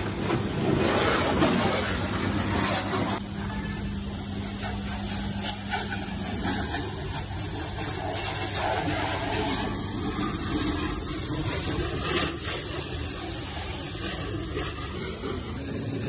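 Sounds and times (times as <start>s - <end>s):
pressure washer motor drone: 0.0s - 16.0s
water jet hissing on car: 0.0s - 16.0s.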